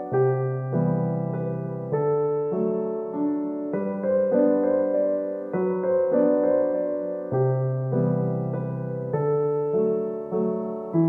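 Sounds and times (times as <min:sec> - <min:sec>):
electric piano chords: 0:00.0 - 0:11.0.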